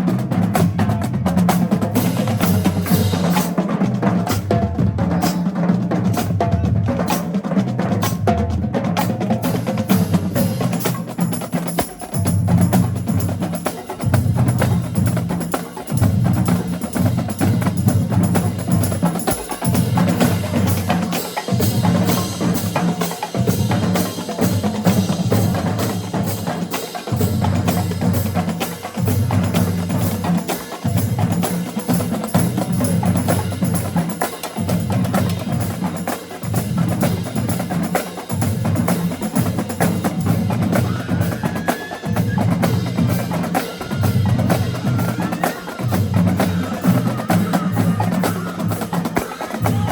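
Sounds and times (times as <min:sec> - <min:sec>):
snare and bass drums: 0:00.0 - 0:49.9.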